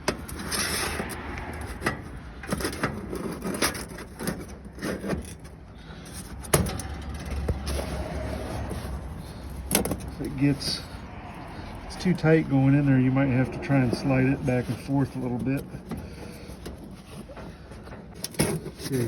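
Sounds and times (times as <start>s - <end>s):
metal grate clanking and scraping: 0.0s - 19.0s.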